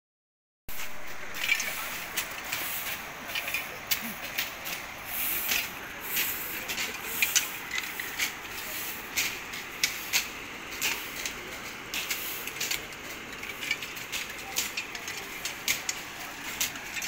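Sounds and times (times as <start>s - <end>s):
broom sweeping stone steps: 0.7s - 17.0s
sickles cutting weeds: 0.7s - 17.0s.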